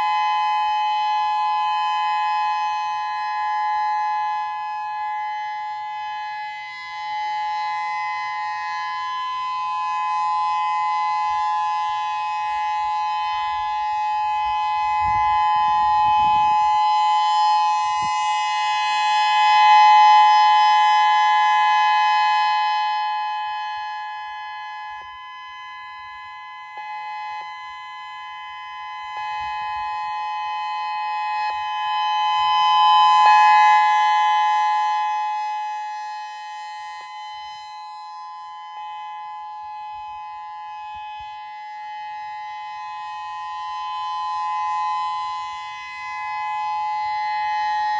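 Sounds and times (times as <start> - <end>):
two-tone warning siren: 0.0 - 47.9.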